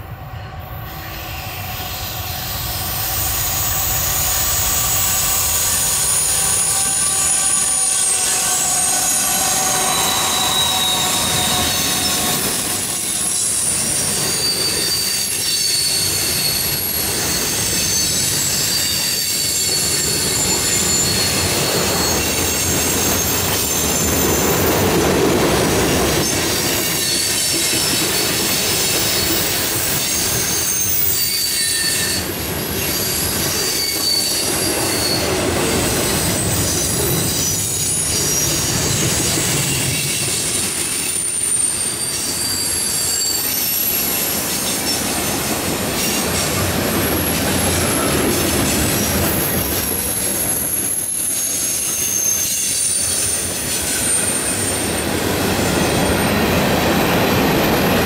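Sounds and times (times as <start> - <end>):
freight train wheels rumbling: 0.0 - 58.0
high-pitched wheel squeal: 0.8 - 24.9, 25.8 - 45.4, 46.0 - 56.4.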